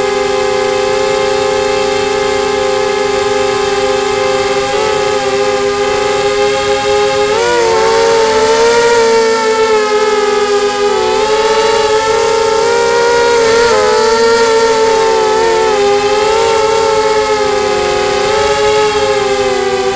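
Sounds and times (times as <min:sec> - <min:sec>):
quadcopter motors whining: 0:00.0 - 0:19.9.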